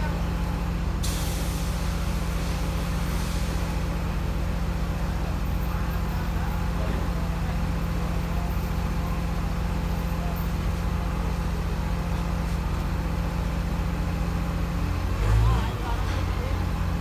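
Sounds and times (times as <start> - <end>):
bulldozer diesel engine idling: 0.0 - 17.0.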